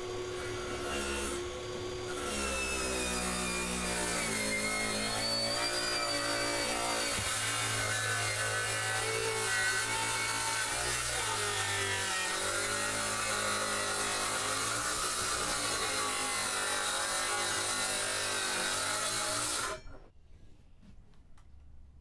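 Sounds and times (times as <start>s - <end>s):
circular saw cutting plywood: 0.0s - 20.1s.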